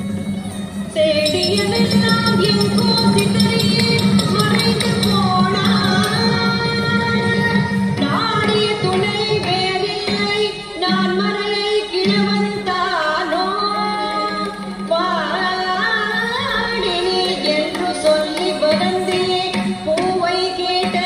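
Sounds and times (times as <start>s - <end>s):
woman singing: 0.9s - 21.0s.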